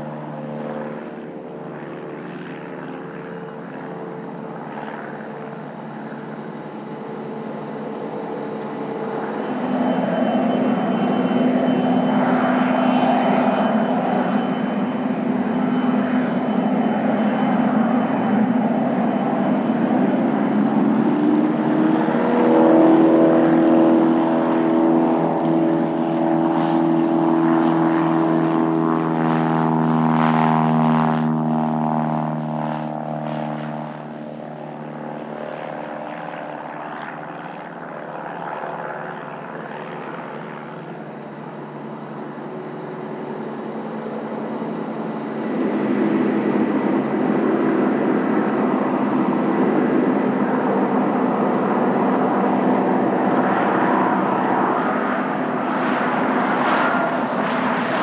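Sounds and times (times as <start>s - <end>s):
propeller plane engine droning: 0.0s - 58.0s
second plane engine with hiss: 0.0s - 58.0s.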